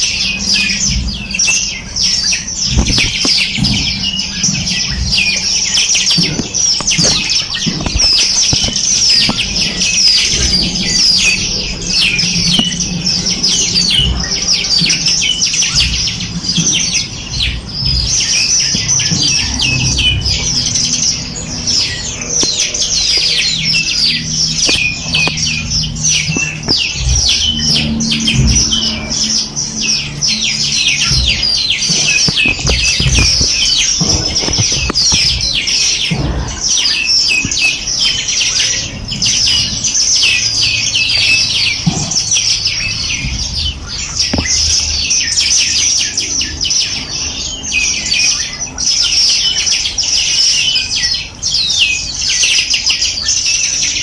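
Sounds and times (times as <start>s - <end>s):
songbirds chirping and twittering: 0.0s - 54.0s.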